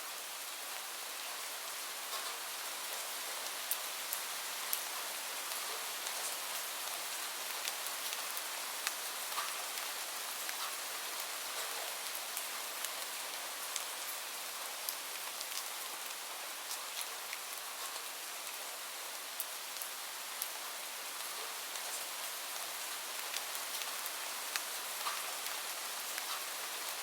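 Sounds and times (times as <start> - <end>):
steady rain hissing: 0.0 - 27.0.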